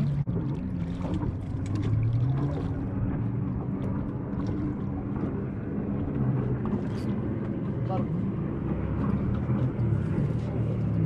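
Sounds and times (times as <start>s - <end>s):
boat motor humming: 0.0s - 11.0s
water wash: 0.0s - 11.0s.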